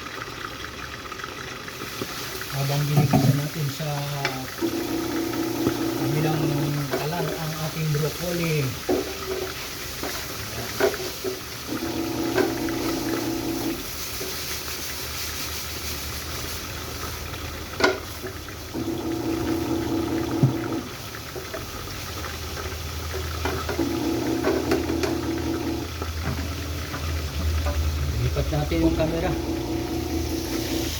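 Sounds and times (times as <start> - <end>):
food sizzling in hot oil: 0.0 - 30.9.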